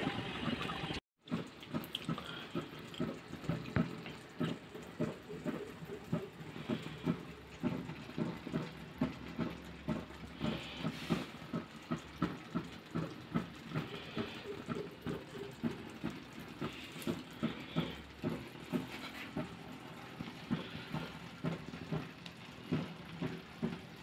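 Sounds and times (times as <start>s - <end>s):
rice bubbling and crackling in pan: 0.0s - 24.0s
steam hissing: 4.3s - 24.0s.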